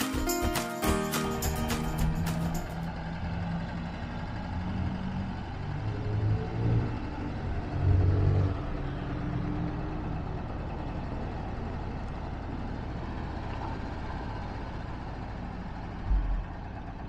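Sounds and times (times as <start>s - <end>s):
motor vehicle engine humming: 0.0s - 17.0s.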